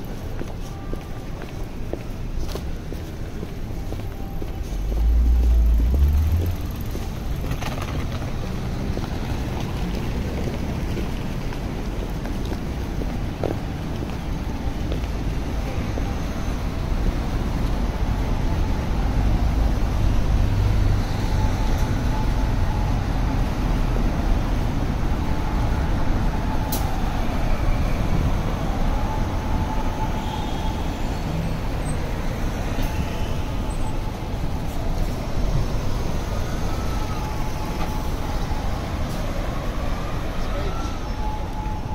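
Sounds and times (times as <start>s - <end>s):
buses and cars passing: 0.0s - 41.9s.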